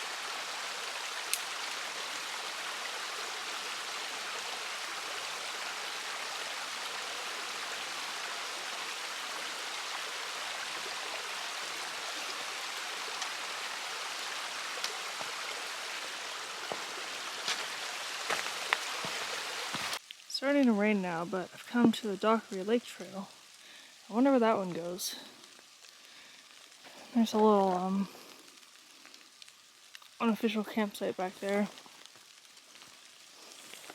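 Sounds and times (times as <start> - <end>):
steady hiss of water: 0.0 - 33.9.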